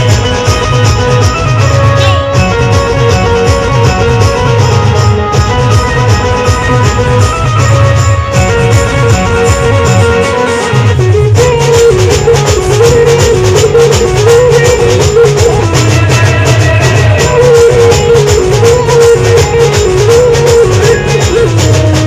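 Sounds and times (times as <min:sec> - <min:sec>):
loud band music: 0:00.0 - 0:22.0.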